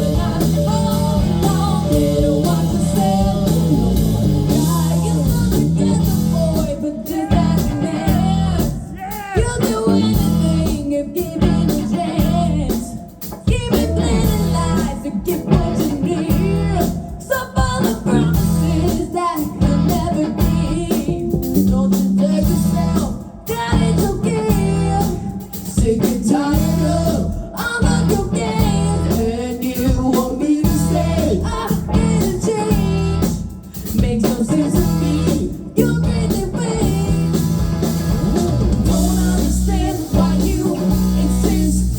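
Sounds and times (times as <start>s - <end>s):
blues-rock band playing: 0.0s - 41.9s
electric guitar: 0.0s - 41.9s.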